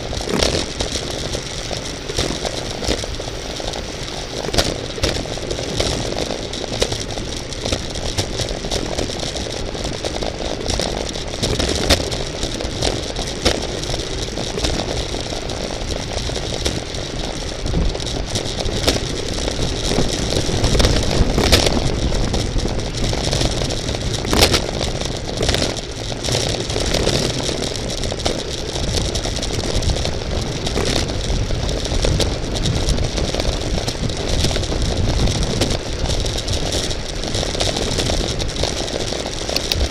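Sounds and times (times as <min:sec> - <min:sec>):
bicycle frame rattling and clicking: 0:00.0 - 0:39.9
wind rushing over microphone: 0:00.0 - 0:39.9.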